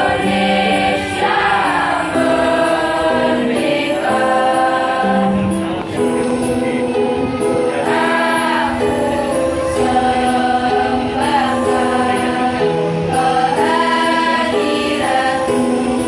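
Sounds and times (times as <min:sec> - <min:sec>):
girls' choir singing: 0:00.0 - 0:16.0.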